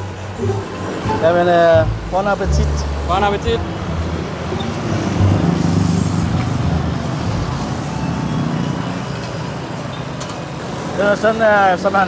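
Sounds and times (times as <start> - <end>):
street traffic engines and road noise: 0.0 - 12.0.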